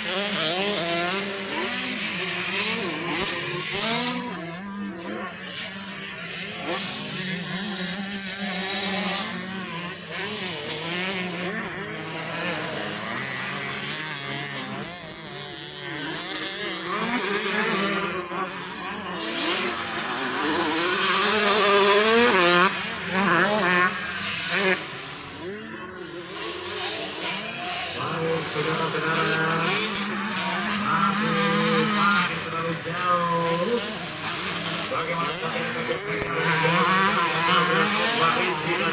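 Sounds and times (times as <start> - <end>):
motorcycle engines racing: 0.0 - 38.9
motorcycle revving up close: 0.0 - 38.9.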